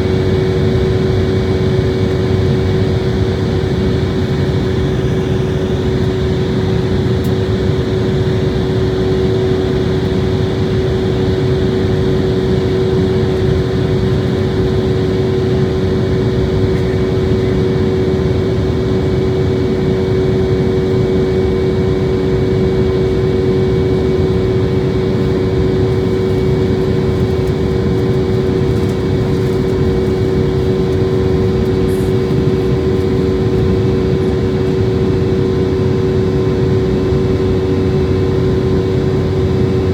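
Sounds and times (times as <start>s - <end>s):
constant hum tone: 0.0s - 39.9s
jet engine drone: 0.0s - 39.9s.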